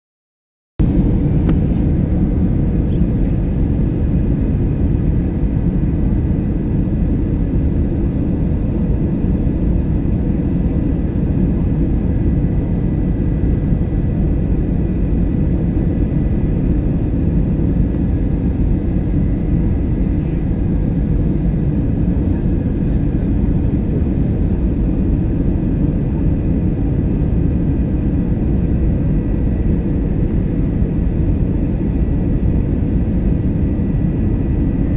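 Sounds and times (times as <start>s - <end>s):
faint steady whine: 0.8s - 34.9s
jet engine and airflow rumble: 0.8s - 34.9s.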